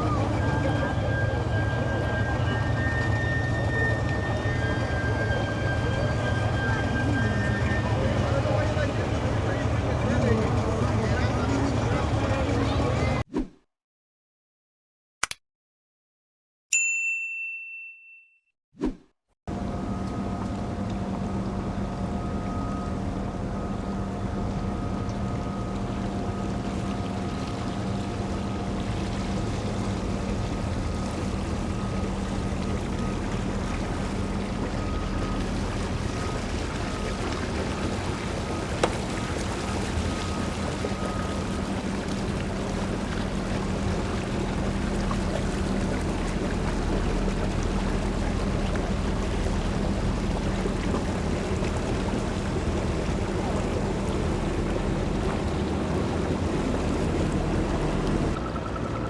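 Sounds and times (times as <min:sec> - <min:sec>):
boat engine idling: 0:00.0 - 0:13.2, 0:19.5 - 0:59.0
water noise: 0:00.0 - 0:13.2, 0:19.5 - 0:59.0
wind: 0:00.0 - 0:13.2, 0:18.8 - 0:59.0.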